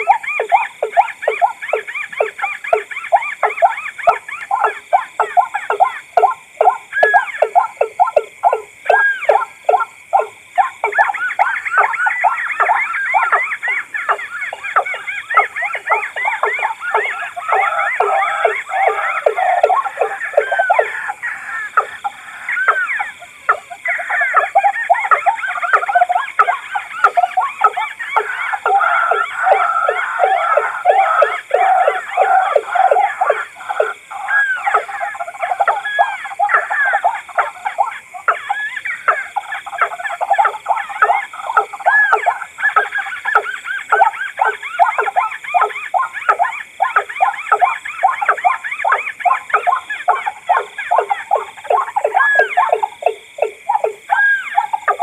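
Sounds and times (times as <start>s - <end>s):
rail bird calls played as lure: 0.0s - 21.1s, 21.8s - 55.0s.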